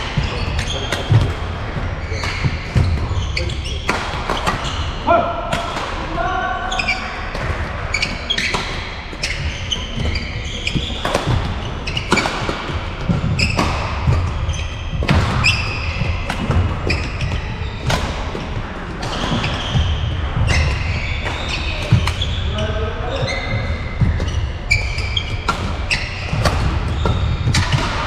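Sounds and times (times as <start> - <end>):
shoes squeaking: 0.0 - 5.3, 6.4 - 28.0.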